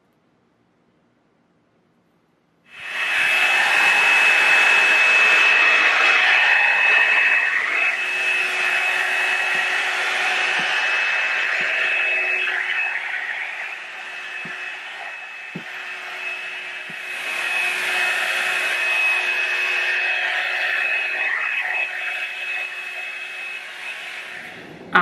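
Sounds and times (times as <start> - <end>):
hot-air brush dryer whining: 2.7 - 25.0.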